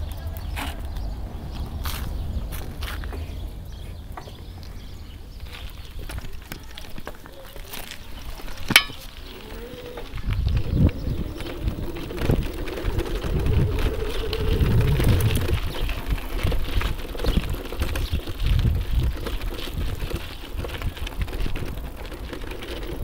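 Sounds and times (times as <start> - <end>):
wind buffeting microphone: 0.0 - 7.1, 7.8 - 23.0.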